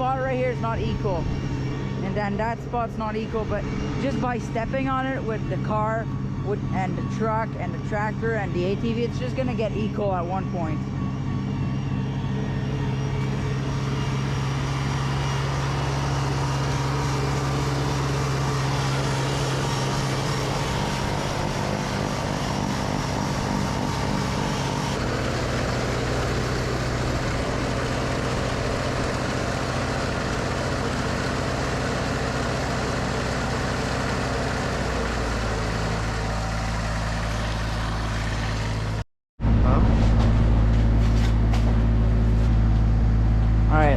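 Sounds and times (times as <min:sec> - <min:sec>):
engine running under load: 0:00.0 - 0:43.9.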